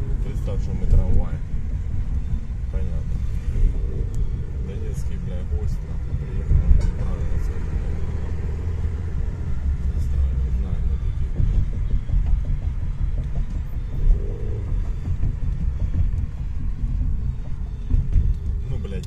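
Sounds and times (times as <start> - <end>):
car engine rumble: 0.0 - 19.0
road noise: 0.0 - 19.0.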